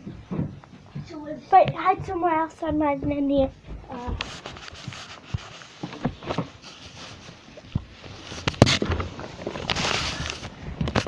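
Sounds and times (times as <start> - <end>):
microphone handling clicks and rustling: 0.0 - 11.0.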